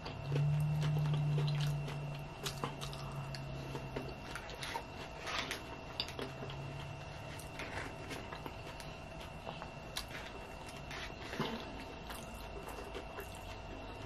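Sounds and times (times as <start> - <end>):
low steady hum: 0.0 - 14.0
wet chewing and crunching: 0.0 - 14.0.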